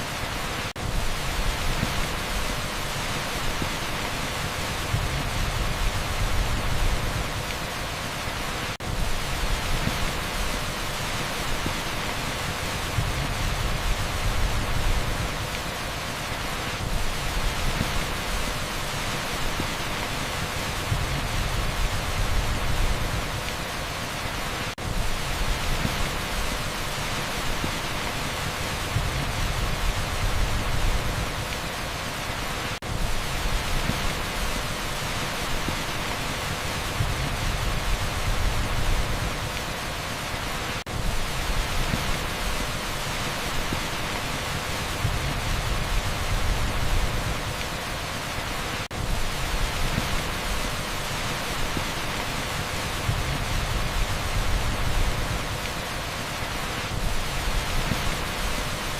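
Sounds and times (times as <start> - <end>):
torrential rain hiss: 0.0 - 58.9.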